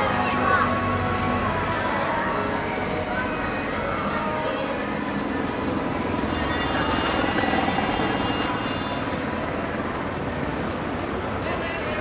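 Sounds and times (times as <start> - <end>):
vehicle engines in traffic: 0.0 - 12.0.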